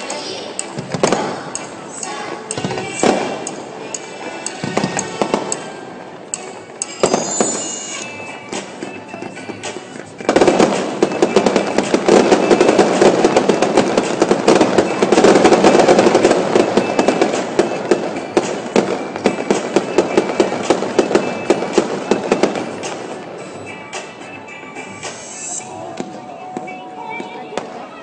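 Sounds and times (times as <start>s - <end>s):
fireworks crackling and popping: 0.0s - 27.9s.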